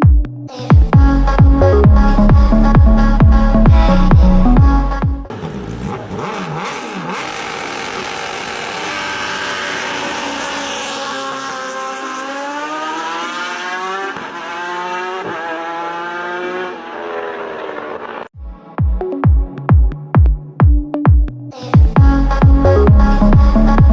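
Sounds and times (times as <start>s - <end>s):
motorcycle engine accelerating: 0.9s - 18.3s, 22.0s - 23.9s.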